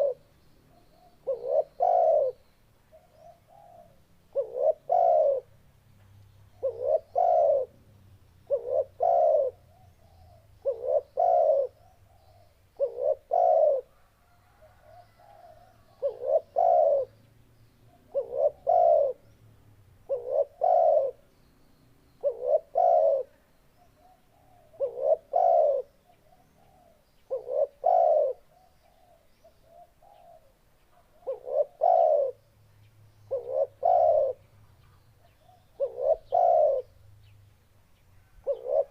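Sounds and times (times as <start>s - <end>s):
dove cooing: 0.0s - 5.6s, 6.6s - 17.2s, 17.9s - 19.4s, 20.0s - 21.2s, 22.2s - 32.4s, 33.3s - 37.0s, 38.2s - 38.9s.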